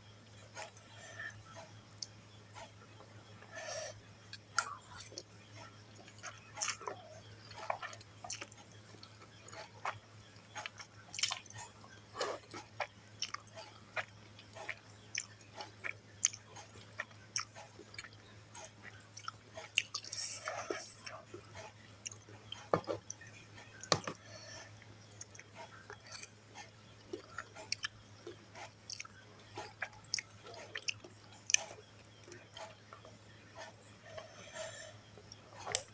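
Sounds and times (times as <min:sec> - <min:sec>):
person chewing noodles: 0:00.2 - 0:35.9.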